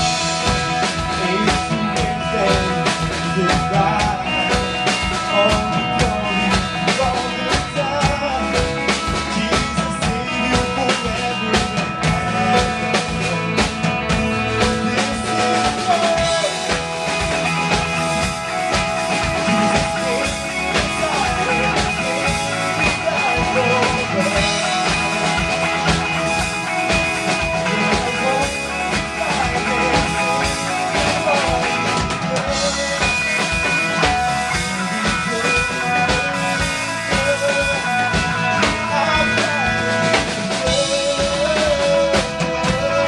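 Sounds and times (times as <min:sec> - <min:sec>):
bass guitar: 0:00.0 - 0:43.0
drum kit steady beat: 0:00.0 - 0:43.0
electric guitar: 0:00.0 - 0:43.0
keyboard: 0:00.0 - 0:43.0.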